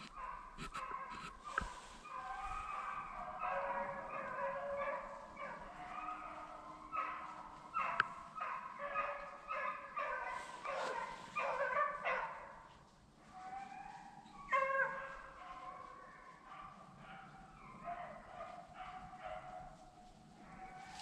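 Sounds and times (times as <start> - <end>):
dogs baying: 0.0 - 21.0.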